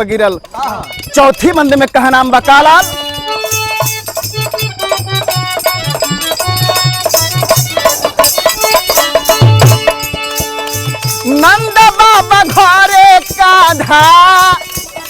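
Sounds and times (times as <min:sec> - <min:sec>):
held melodic tones: 0:00.0 - 0:15.0
jingling hand percussion: 0:00.0 - 0:15.0.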